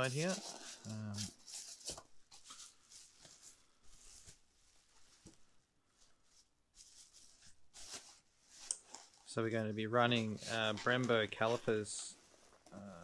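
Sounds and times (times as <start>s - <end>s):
bubble wrap crinkling: 0.0s - 5.4s, 6.0s - 13.0s.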